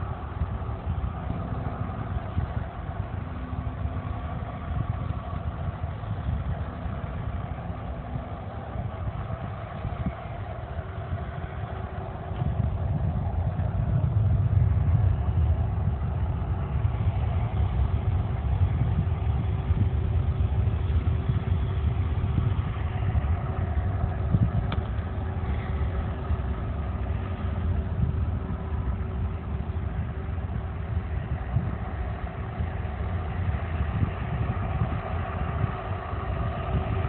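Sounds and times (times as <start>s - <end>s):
distant jet engines idling: 0.0s - 37.0s
faint steady whine: 0.0s - 37.0s.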